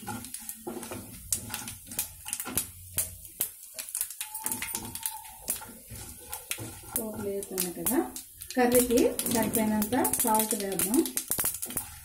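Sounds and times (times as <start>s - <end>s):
low sizzle: 0.0s - 12.0s
seeds popping in hot oil: 0.0s - 12.0s
spatula stirring: 0.0s - 12.0s.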